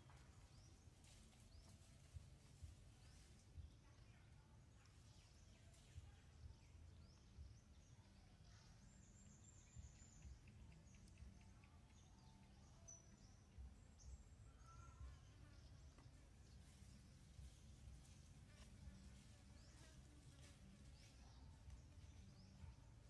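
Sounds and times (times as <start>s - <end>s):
faint high chirps: 3.1s - 23.0s.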